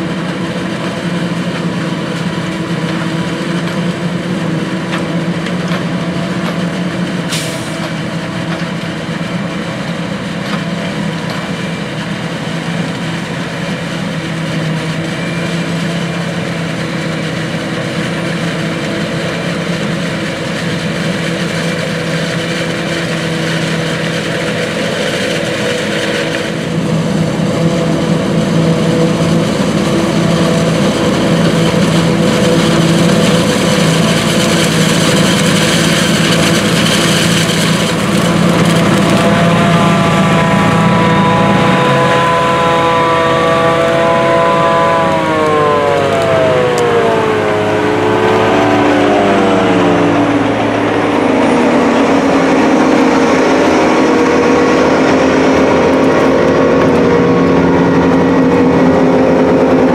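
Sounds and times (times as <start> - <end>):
forage harvester droning: 0.0 - 59.9
truck driving: 0.0 - 59.9.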